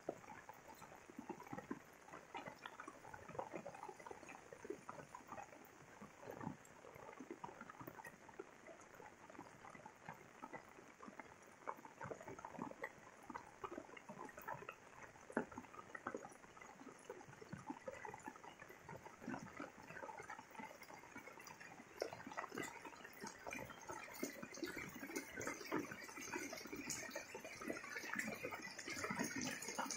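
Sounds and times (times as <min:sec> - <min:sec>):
raindrop ticks and splashes: 0:00.0 - 0:29.9.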